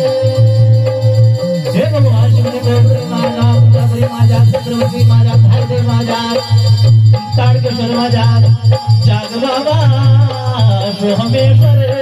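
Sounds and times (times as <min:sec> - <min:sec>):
heavy steady beat: 0:00.0 - 0:12.0
person singing: 0:00.0 - 0:12.0.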